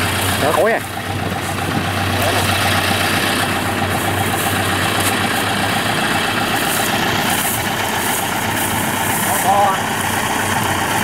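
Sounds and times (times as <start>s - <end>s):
harvester engine idling: 0.0s - 11.0s.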